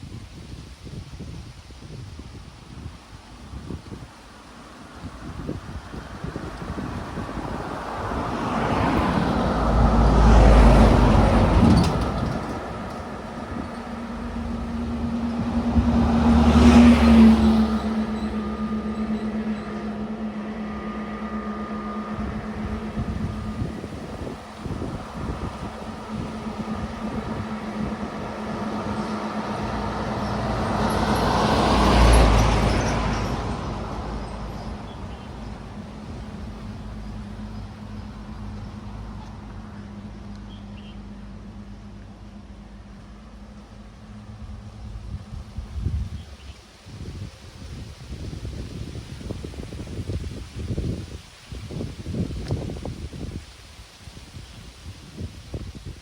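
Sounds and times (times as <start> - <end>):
low engine hum: 0.0 - 56.0
road and wind noise: 0.0 - 56.0
vehicles passing on highway: 0.0 - 56.0.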